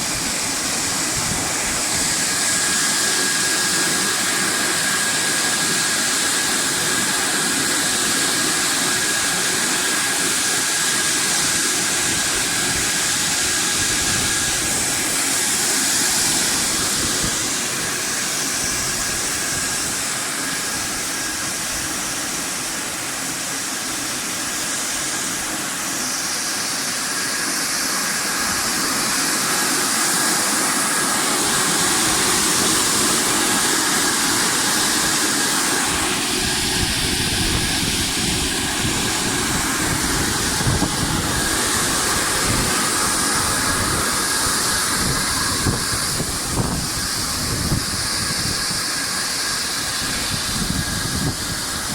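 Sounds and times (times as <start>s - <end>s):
machine hiss with whine: 0.0s - 51.9s.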